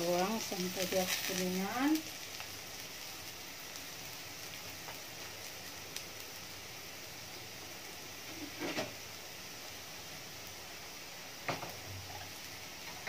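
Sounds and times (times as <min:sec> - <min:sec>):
shallots and garlic sizzling in oil: 0:00.0 - 0:13.0.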